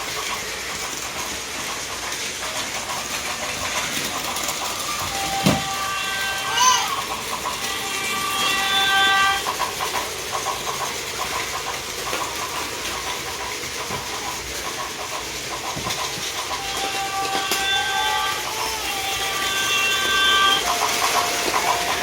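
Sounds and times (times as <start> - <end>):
recorded train wheels clacking: 0.0 - 22.0.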